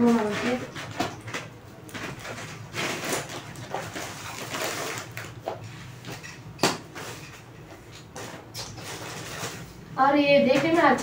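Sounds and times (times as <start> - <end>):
plastic packets crinkling: 0.0 - 9.8.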